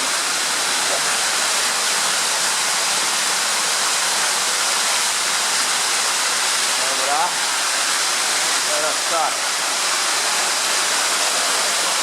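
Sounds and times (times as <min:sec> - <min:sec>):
water rushing through tunnel: 0:00.0 - 0:12.0.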